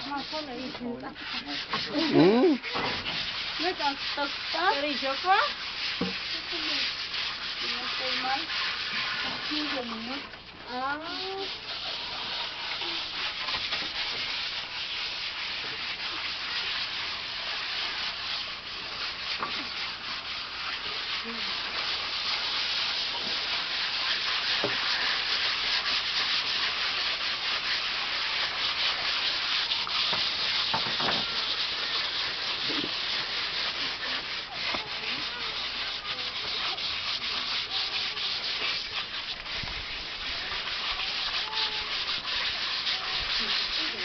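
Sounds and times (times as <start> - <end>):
sandpaper rubbing on wood: 0.0 - 44.0.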